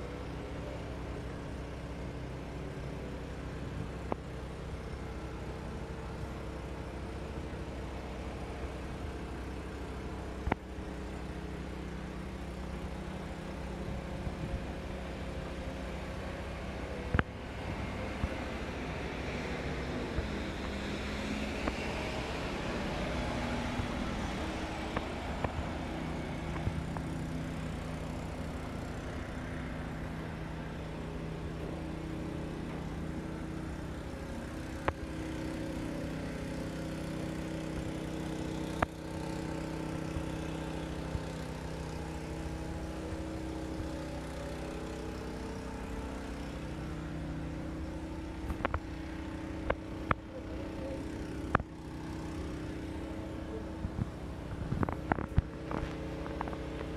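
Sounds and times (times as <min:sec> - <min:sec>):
distant road traffic: 0:00.0 - 0:56.9
low engine hum: 0:00.0 - 0:56.9.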